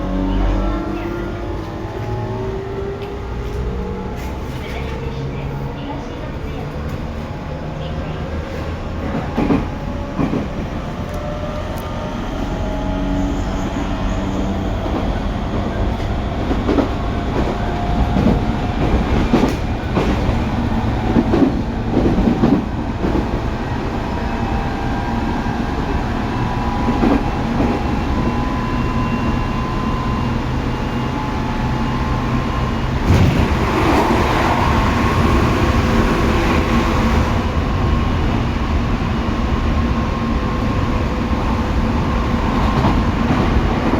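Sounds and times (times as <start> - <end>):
train running rumble: 0.0 - 43.9.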